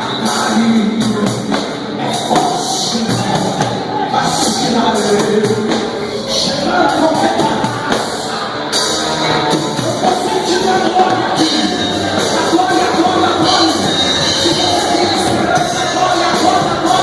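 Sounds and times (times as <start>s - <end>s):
live band music with singing: 0.0s - 17.0s.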